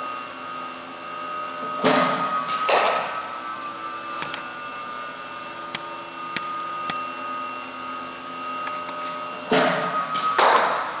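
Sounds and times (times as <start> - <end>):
bowling machine motor whine: 0.0 - 11.0.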